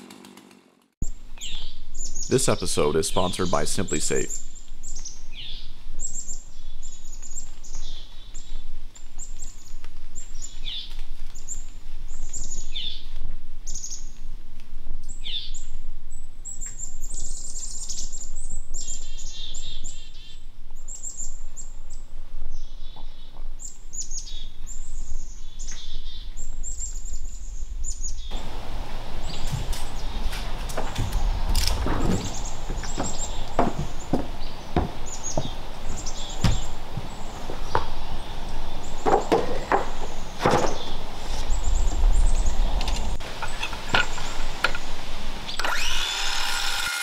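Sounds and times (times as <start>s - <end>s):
forest birds chirping and singing: 1.0s - 14.2s, 15.0s - 46.1s.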